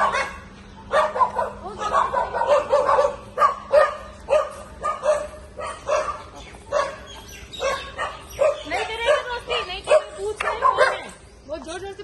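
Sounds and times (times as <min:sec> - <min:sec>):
dog barking: 0:00.0 - 0:11.2.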